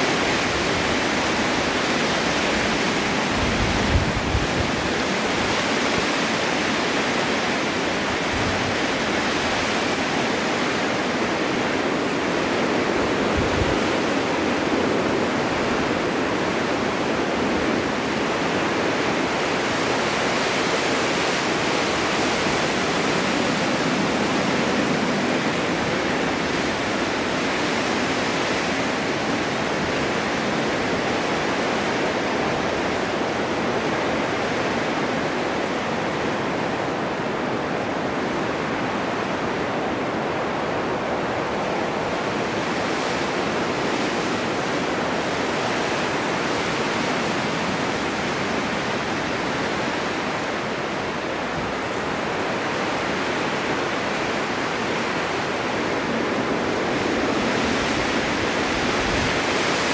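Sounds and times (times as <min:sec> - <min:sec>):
snowstorm wind blowing: 0:00.0 - 0:59.9.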